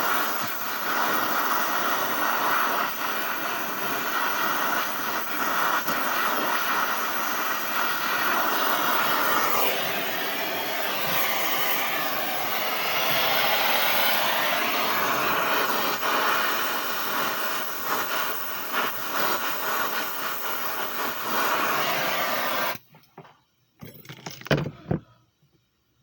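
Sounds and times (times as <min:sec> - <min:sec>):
rushing hiss of gas: 0:00.0 - 0:22.8.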